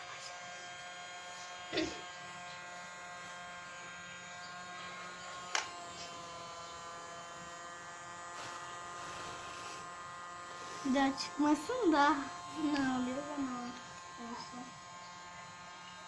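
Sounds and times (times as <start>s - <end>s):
toy vacuum motor buzzing whine: 0.0s - 16.0s.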